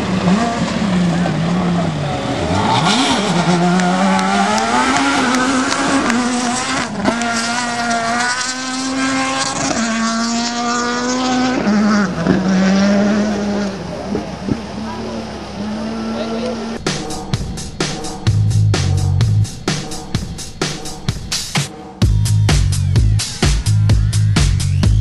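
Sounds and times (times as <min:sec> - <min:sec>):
rally car engine revving: 0:00.0 - 0:21.4.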